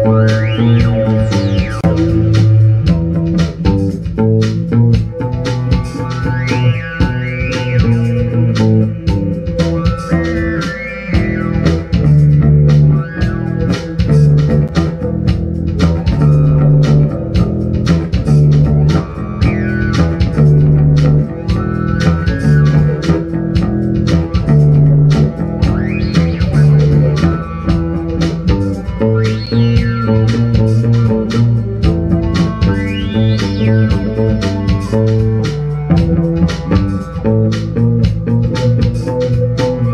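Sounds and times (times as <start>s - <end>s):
drum beat: 0.0s - 39.9s
electric bass riff: 0.0s - 39.9s
keyboards: 0.0s - 39.9s.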